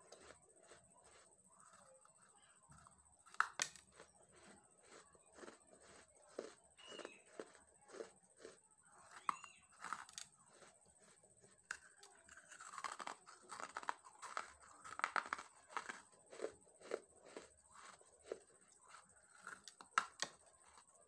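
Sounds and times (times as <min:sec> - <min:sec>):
crunchy biting and chewing: 0:00.0 - 0:21.0.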